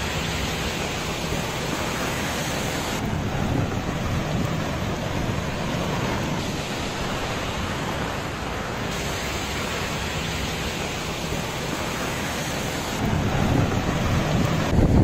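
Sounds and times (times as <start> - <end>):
heavy rain and wind on microphone: 0.0 - 15.0.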